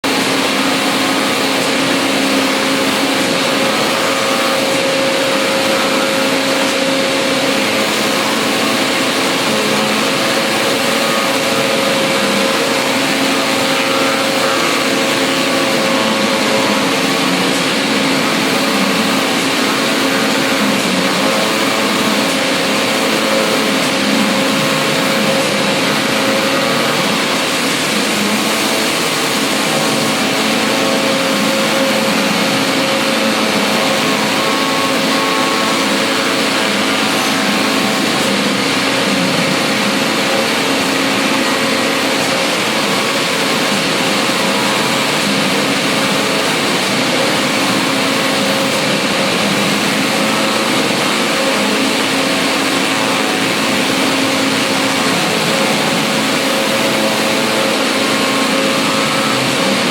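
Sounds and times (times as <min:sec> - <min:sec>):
cutting machine whirring: 0:00.0 - 0:59.9.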